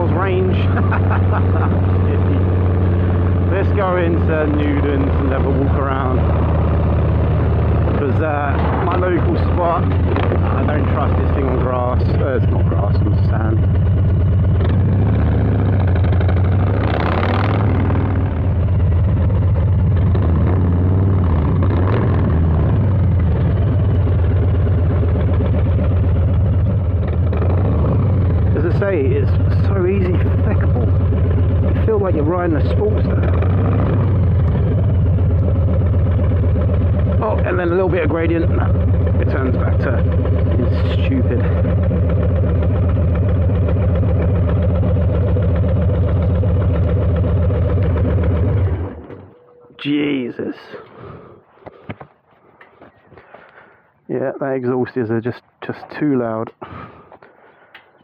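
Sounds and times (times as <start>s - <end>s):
motorcycle exhaust note: 0.0s - 49.9s.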